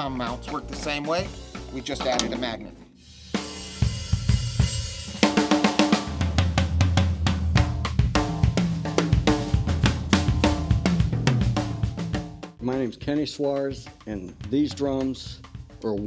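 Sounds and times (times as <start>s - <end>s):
drum fills on toms and snare: 0.0s - 16.0s.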